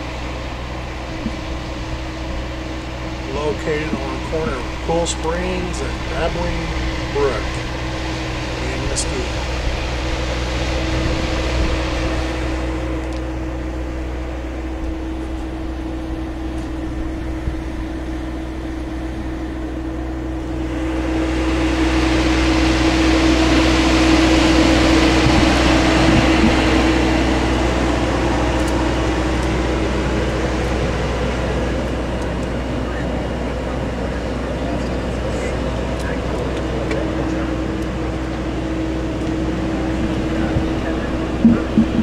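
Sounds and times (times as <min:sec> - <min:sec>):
machinery hum with constant tone: 0:00.0 - 0:42.0.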